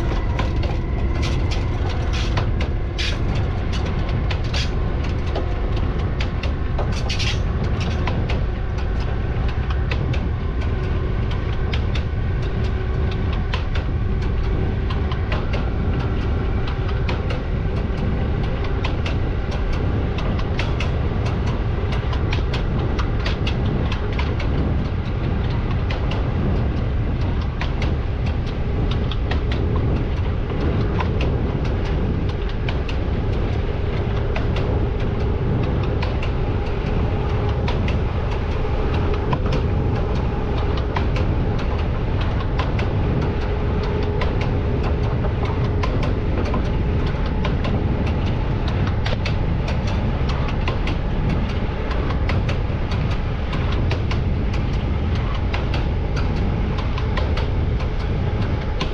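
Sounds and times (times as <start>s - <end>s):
track clicks and knocks: 0.0s - 58.9s
train wheels rumbling on rail: 0.0s - 58.9s.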